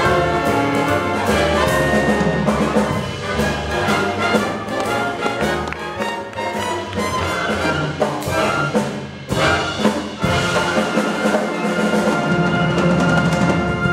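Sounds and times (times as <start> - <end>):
jazz big band playing: 0.0 - 13.9.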